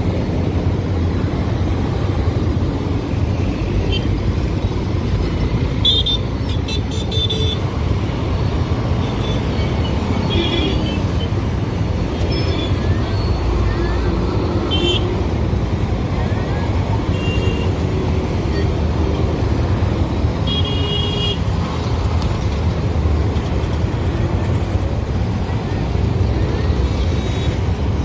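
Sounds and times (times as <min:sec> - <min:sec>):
road and wind rush: 0:00.0 - 0:28.0.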